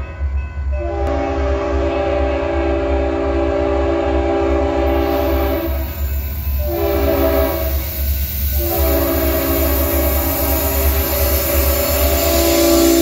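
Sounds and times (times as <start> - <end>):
train rumble: 0.0 - 13.0
locomotive air horn blasts: 0.8 - 6.0, 6.6 - 7.9, 8.5 - 13.0.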